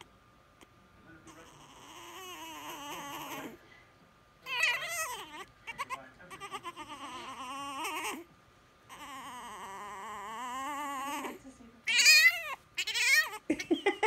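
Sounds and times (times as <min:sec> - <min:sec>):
puppy crying and yelping: 0:01.3 - 0:03.6, 0:04.4 - 0:13.8.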